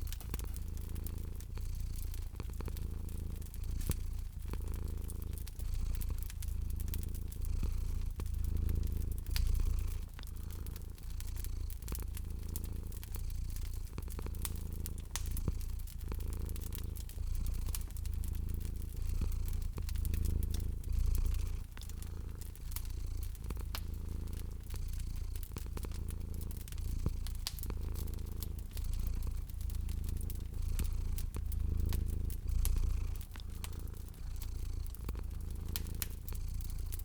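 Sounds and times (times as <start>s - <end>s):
cat purring: 0.0s - 37.0s
wood fire crackling: 0.0s - 37.0s.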